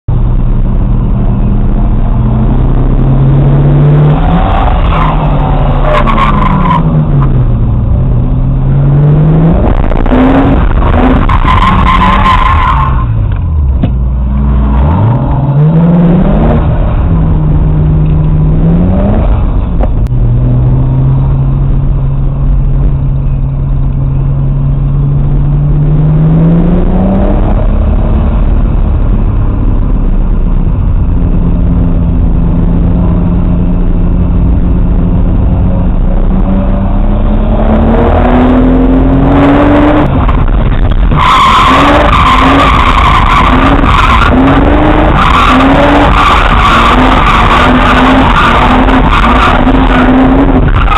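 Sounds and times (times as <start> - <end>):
car engine revving: 0.1 - 50.9.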